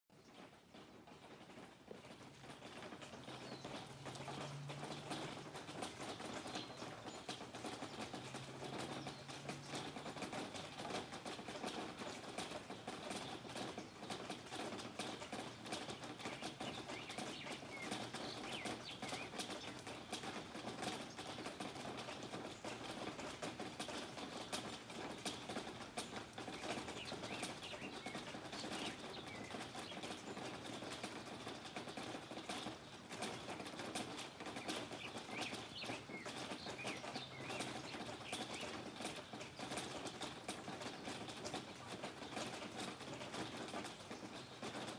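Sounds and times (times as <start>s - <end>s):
heavy rain falling: 0.2s - 44.9s.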